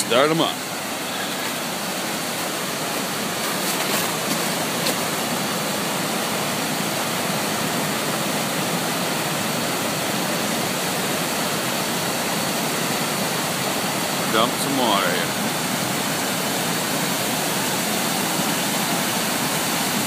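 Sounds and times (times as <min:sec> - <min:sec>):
water rushing down spillway: 0:00.0 - 0:20.0.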